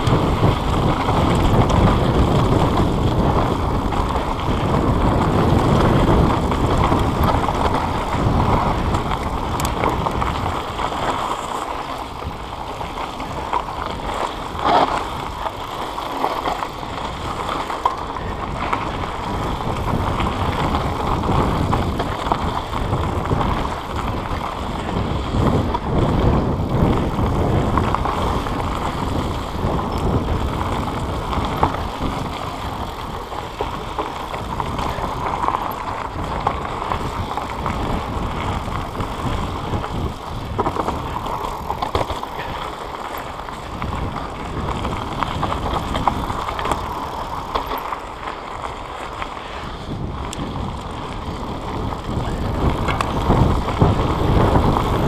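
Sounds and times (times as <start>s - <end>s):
bike rattling over bumps: 0.0s - 55.0s
bike tyres on dirt: 0.0s - 55.0s.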